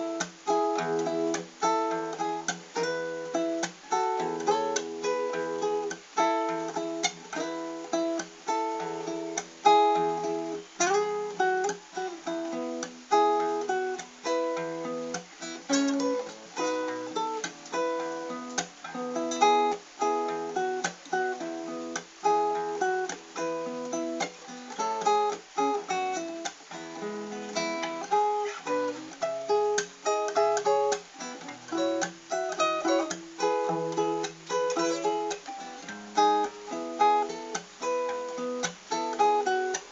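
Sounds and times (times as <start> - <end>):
fingerstyle acoustic guitar: 0.0 - 39.9.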